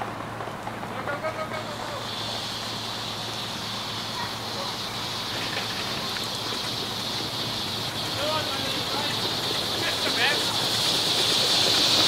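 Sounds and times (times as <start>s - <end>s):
miniature train running: 0.0s - 12.0s
steam hissing: 0.8s - 12.0s.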